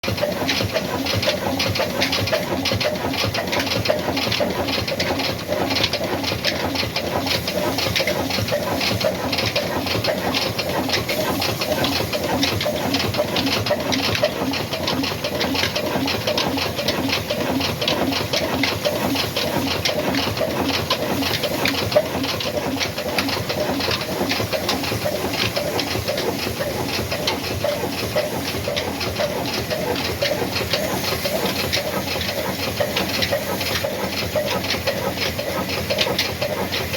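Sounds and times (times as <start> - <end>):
diesel engine running: 0.0 - 36.9
rapid mechanical ticking: 0.0 - 36.9.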